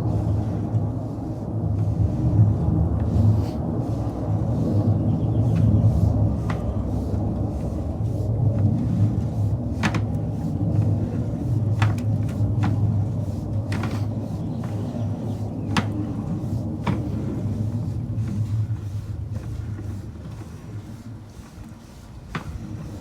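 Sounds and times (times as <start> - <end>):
low hum of cable reel: 0.0 - 23.0.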